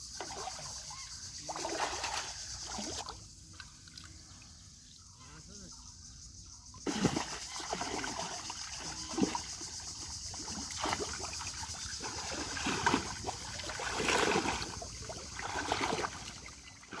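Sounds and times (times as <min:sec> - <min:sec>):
pond water splashing: 0:00.0 - 0:04.8, 0:06.8 - 0:17.0.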